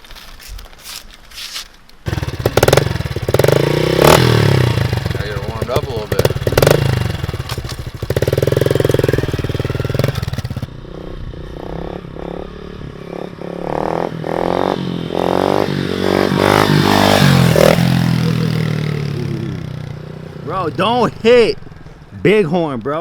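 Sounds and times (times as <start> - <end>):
motorcycle engine revving: 2.1 - 22.2.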